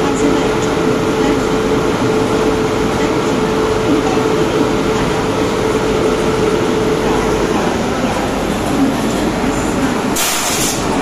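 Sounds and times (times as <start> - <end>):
electric locomotive humming: 0.0 - 11.0.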